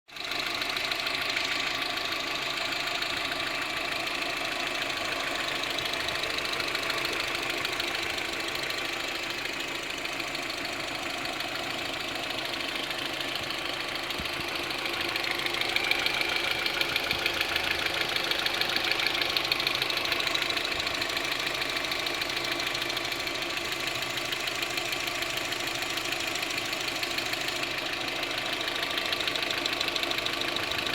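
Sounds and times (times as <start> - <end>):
car engine running: 0.1 - 30.9
rapid regular engine ticking: 0.1 - 30.9.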